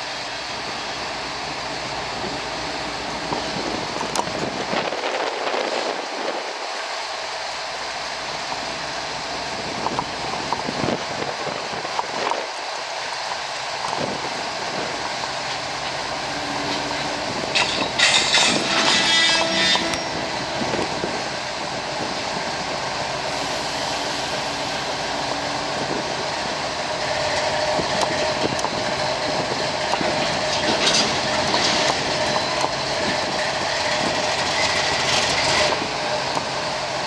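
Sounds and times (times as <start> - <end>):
diesel locomotive engine rumble: 0.0 - 37.0.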